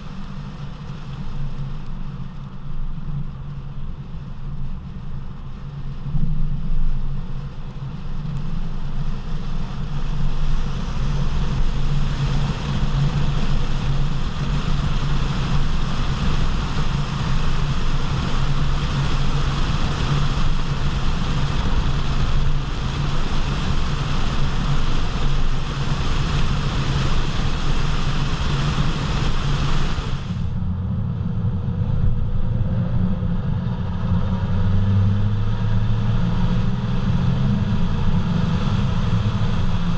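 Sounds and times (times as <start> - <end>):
tire road roar: 0.0 - 39.9
wind rushing over microphone: 0.0 - 39.9.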